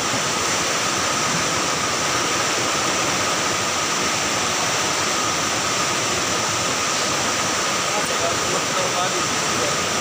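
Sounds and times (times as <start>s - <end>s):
fast-flowing river rushing: 0.0s - 10.0s.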